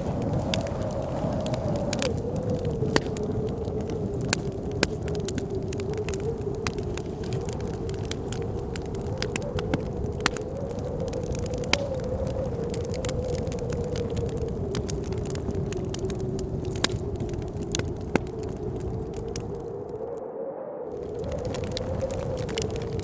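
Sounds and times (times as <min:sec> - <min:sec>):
fire popping: 0:00.0 - 0:20.2, 0:20.9 - 0:23.0
wood fire crackling: 0:00.0 - 0:20.2, 0:20.9 - 0:23.0
howling wind: 0:00.0 - 0:23.0.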